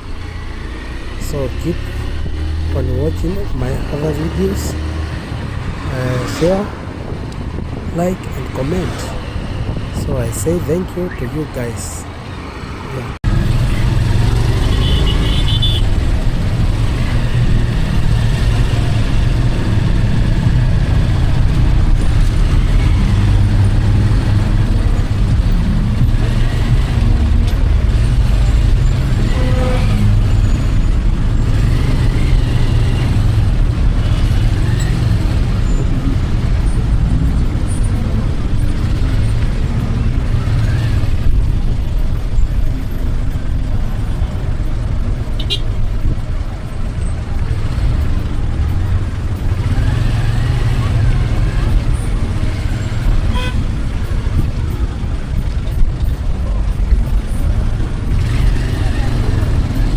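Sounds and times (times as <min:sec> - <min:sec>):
vehicle road noise rumble: 0:00.0 - 0:59.9.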